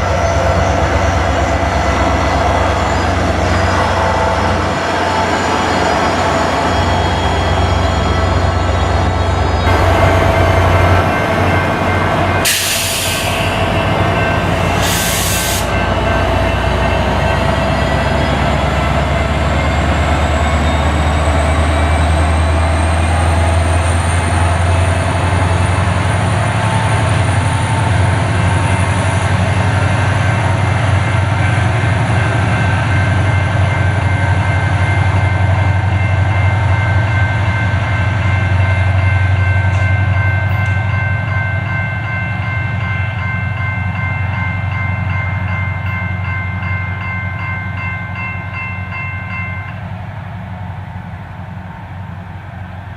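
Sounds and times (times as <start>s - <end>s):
diesel locomotive rumble: 0.0s - 44.2s.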